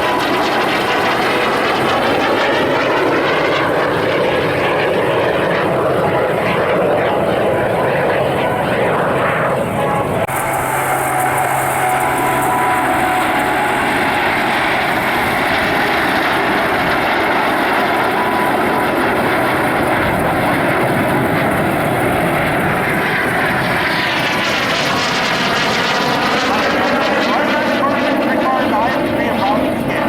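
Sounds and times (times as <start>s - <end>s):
jet aircraft passing: 0.0s - 30.0s.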